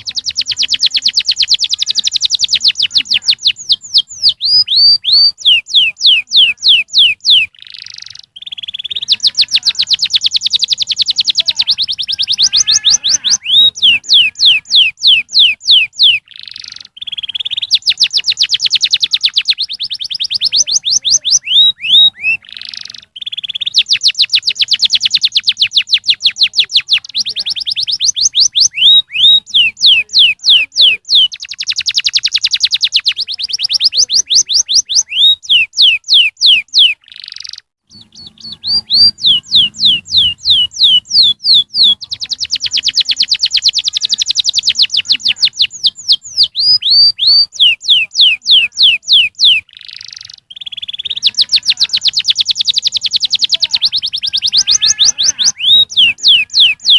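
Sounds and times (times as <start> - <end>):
canary singing rapid trills: 0.0 - 56.9.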